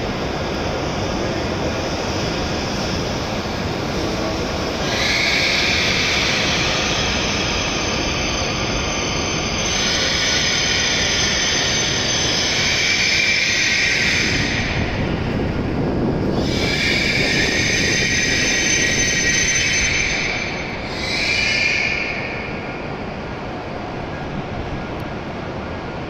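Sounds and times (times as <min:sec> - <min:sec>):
train wheel and running noise: 0:00.0 - 0:26.0.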